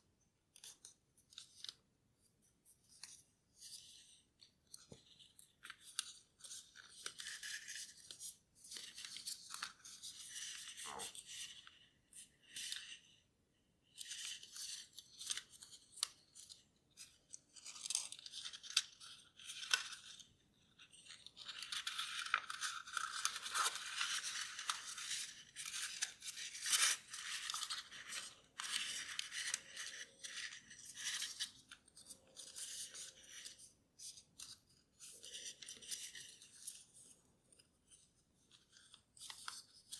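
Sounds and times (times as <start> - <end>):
paper rustling and crinkling: 2.8 - 13.0, 14.0 - 39.9.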